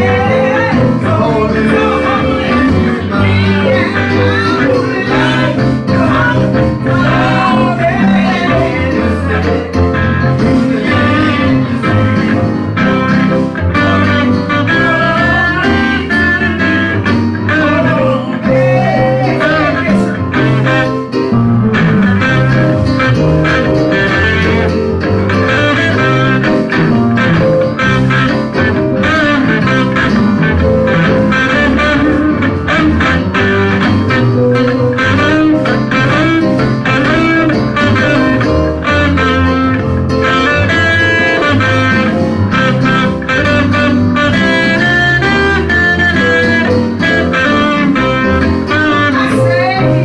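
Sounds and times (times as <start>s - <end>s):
electric guitar: 0.0s - 50.0s
gospel band music: 0.0s - 50.0s.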